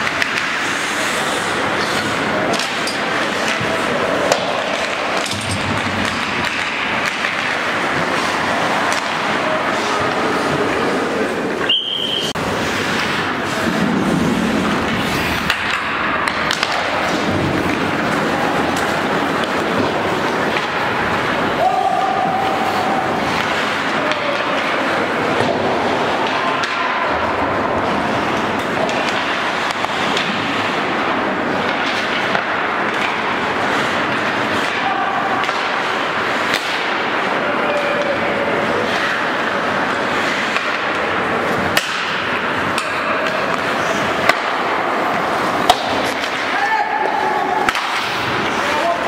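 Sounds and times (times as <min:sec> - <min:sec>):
hockey sticks and puck clacking: 0:00.0 - 0:49.0
skates scraping on ice: 0:00.0 - 0:49.0
players shouting: 0:00.4 - 0:30.8, 0:31.5 - 0:49.0.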